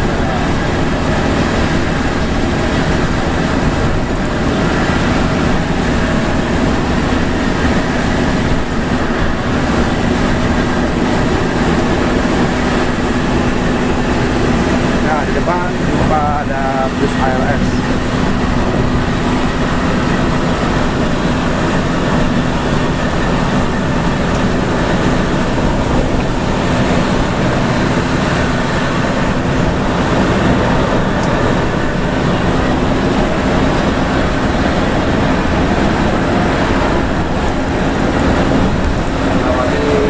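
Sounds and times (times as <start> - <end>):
bus engine drone: 0.0 - 40.0
tyres hissing on wet road: 0.0 - 40.0.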